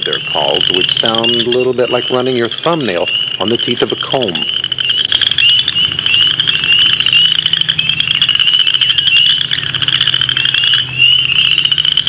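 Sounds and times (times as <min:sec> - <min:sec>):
frogs calling in pulsed trills: 0:00.0 - 0:12.0.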